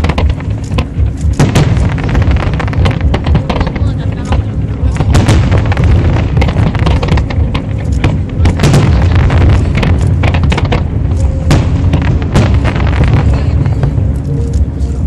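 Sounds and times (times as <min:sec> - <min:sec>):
firework shells bursting: 0:00.0 - 0:14.7
low rumble: 0:00.0 - 0:15.0.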